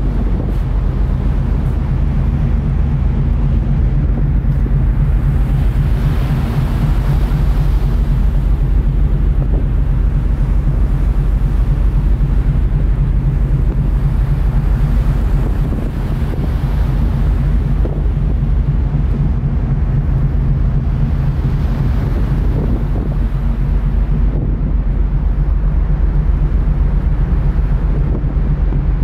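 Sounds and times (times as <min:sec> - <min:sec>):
ferry engines droning: 0:00.0 - 0:29.0
wind rushing over microphone: 0:00.0 - 0:29.0.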